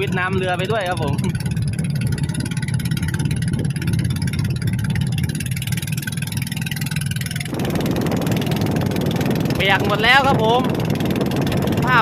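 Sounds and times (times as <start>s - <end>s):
boat engine running: 0.0s - 12.0s
wind and water noise: 0.0s - 12.0s.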